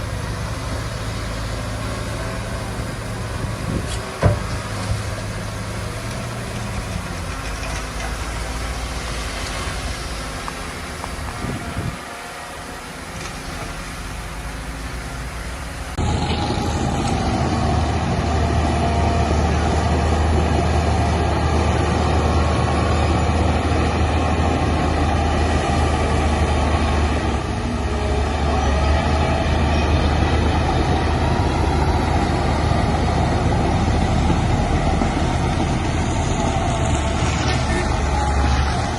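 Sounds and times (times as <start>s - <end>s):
heavy machinery diesel engine: 0.0s - 38.9s.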